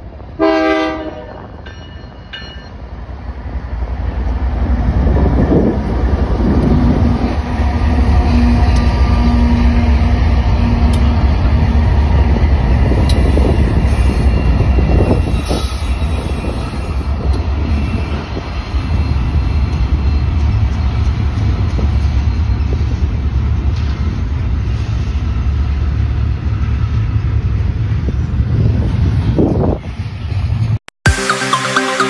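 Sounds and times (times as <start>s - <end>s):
train cars rolling on rails: 0.0s - 30.8s
diesel locomotives rumbling past: 0.0s - 31.8s.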